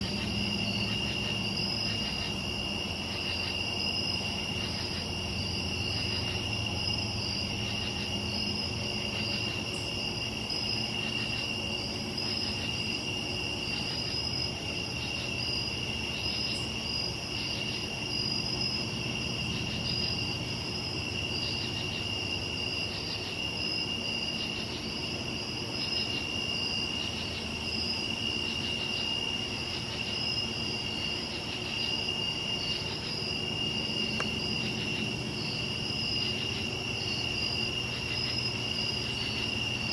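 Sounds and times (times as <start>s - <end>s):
crickets trilling: 0.0s - 39.9s
pulsing insect call: 0.0s - 39.9s.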